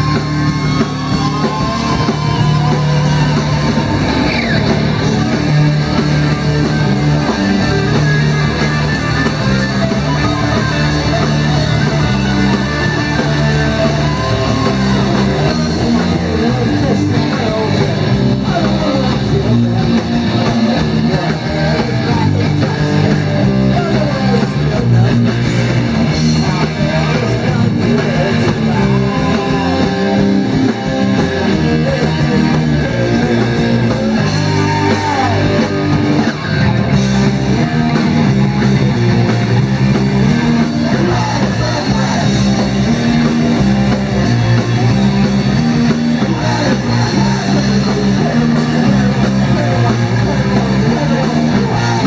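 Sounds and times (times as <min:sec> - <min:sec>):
person singing into a microphone: 0:00.0 - 0:36.6, 0:40.0 - 0:52.0
bass guitar: 0:00.0 - 0:52.0
drums: 0:00.0 - 0:52.0
electric guitars: 0:00.0 - 0:52.0.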